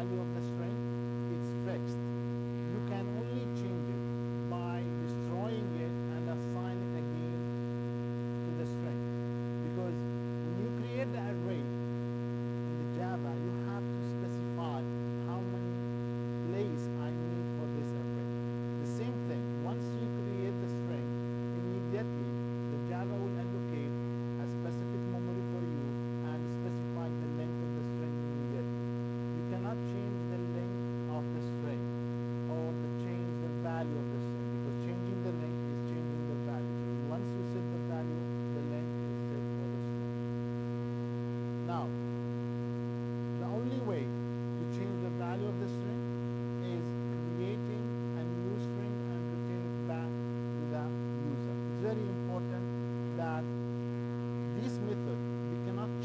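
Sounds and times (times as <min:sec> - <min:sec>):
buzzy electrical mains hum: 0:00.0 - 0:56.0
faint pitched sounds: 0:00.0 - 0:56.0.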